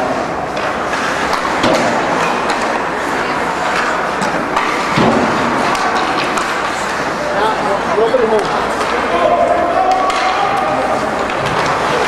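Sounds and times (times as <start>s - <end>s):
arena crowd din: 0.0s - 12.0s
hockey sticks and puck clacking: 0.0s - 12.0s.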